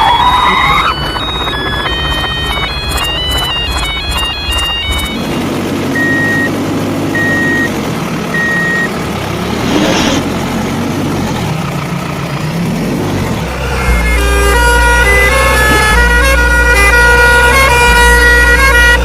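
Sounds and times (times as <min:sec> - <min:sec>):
truck reversing beeper: 0:00.0 - 0:10.4, 0:13.6 - 0:19.0
engine rumble: 0:00.0 - 0:19.0.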